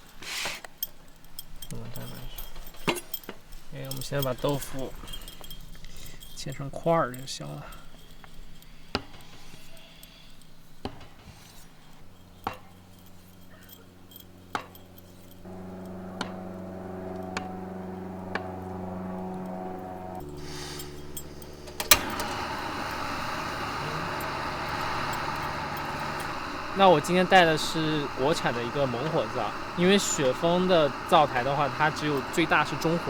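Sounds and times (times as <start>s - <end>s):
steady low hum: 1.1s - 33.0s.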